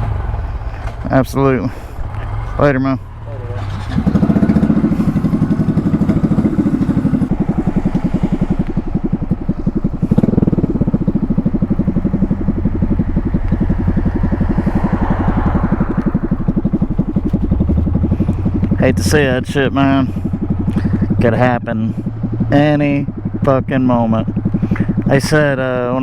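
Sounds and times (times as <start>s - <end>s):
small motorcycle engine running: 0.0s - 26.0s.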